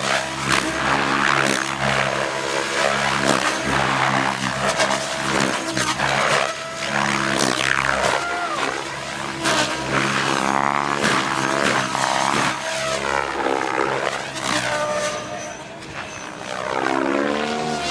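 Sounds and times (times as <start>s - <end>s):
helicopter rotor blades whooshing: 0.0s - 17.9s
motor whine: 0.0s - 17.9s.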